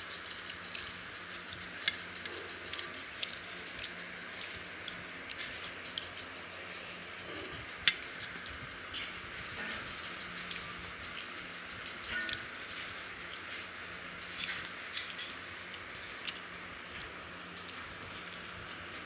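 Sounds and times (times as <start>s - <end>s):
hands mixing food on steel plates: 0.0s - 19.0s.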